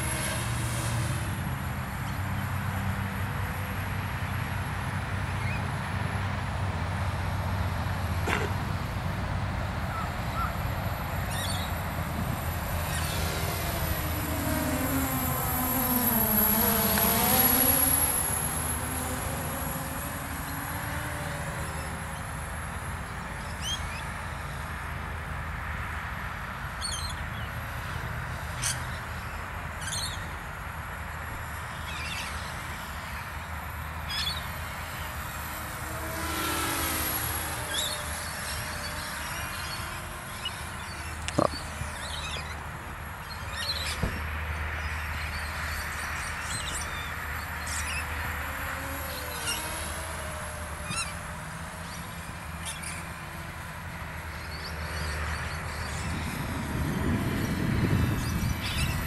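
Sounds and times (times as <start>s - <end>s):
model plane motor droning: 0.0s - 59.0s.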